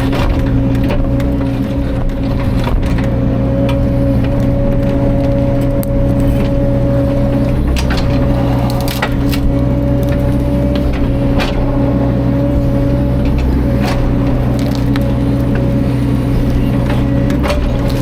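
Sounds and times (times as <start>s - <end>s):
excavator diesel engine running: 0.0s - 18.0s
wood cracking and splintering: 0.0s - 18.0s.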